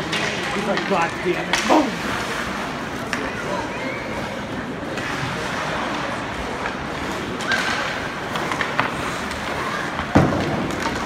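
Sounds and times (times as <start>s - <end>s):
ice rink noise: 0.0s - 11.0s.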